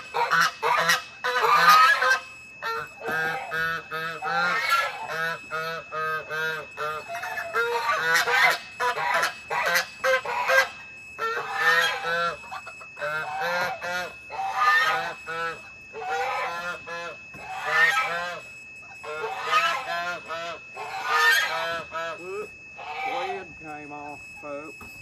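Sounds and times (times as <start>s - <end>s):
farm birds calling: 0.0s - 24.6s.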